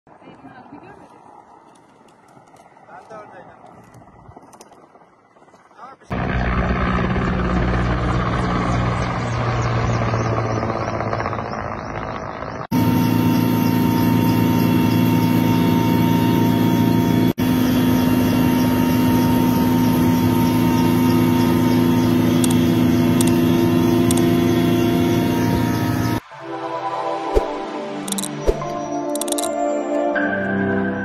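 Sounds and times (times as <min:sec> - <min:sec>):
helicopter rotor and turbine engine: 0:00.2 - 0:26.3, 0:27.4 - 0:29.5.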